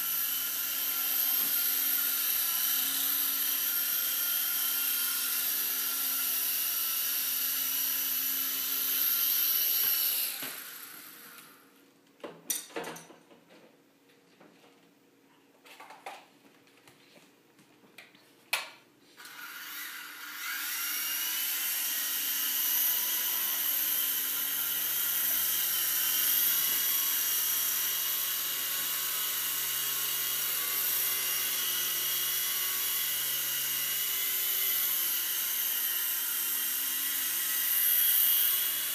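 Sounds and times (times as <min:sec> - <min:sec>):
small helicopter motor whining: 0:00.0 - 0:11.7, 0:19.2 - 0:38.9.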